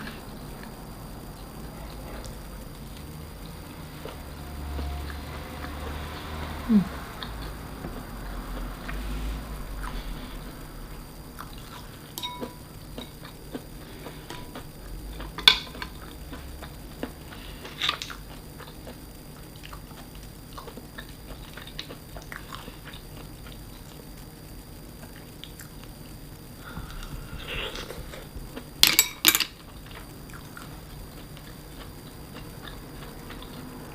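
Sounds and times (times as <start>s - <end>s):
person chewing: 0.0s - 24.3s, 25.0s - 26.0s, 26.6s - 28.8s, 29.5s - 33.9s.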